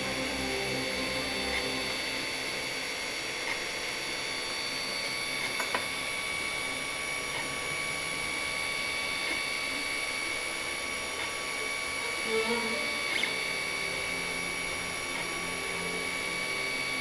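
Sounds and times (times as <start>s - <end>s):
printer stepper motors whining: 0.0s - 17.0s.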